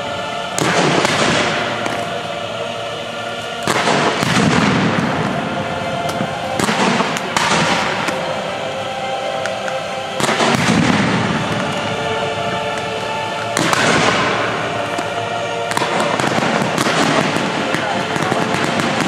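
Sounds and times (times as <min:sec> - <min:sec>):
fireworks crackling: 0:00.0 - 0:19.0
fireworks bangs: 0:00.5 - 0:02.3, 0:03.3 - 0:08.5, 0:09.4 - 0:19.0.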